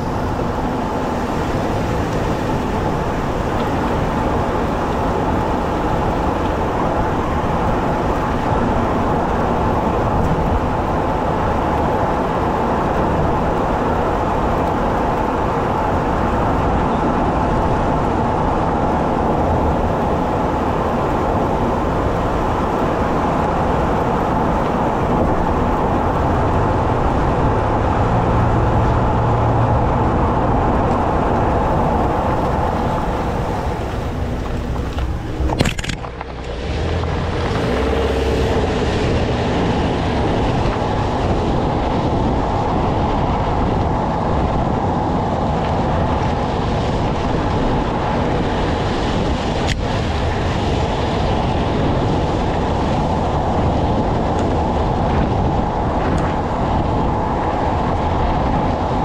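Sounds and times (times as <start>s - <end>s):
rolling road noise: 0.0s - 59.0s
wind rush: 0.0s - 59.0s.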